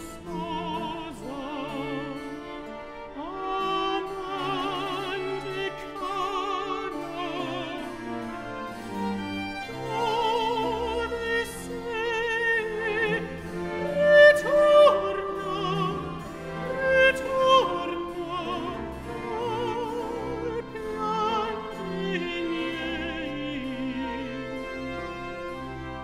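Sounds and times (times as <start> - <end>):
operatic singing with vibrato: 0.0 - 26.0
string orchestra: 0.0 - 26.0.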